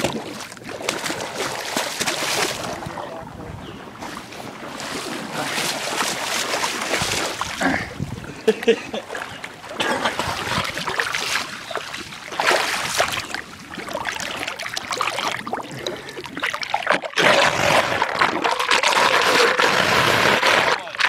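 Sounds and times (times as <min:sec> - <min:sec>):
floodwater splashing and trickling: 0:00.0 - 0:21.0.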